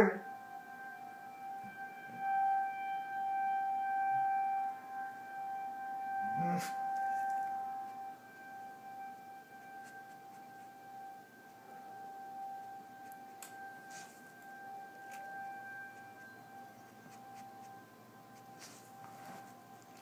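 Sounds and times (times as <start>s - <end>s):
tornado siren steady tone: 0.0s - 20.0s.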